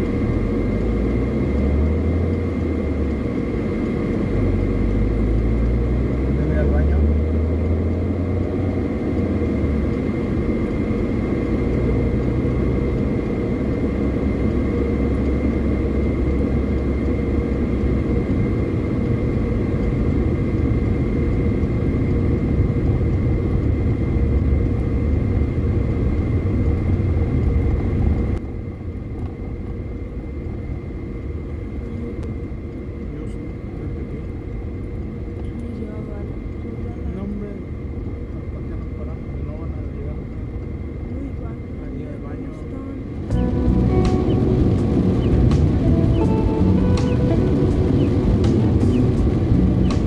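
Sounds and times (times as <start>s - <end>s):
road and engine noise inside car: 0.0s - 50.0s.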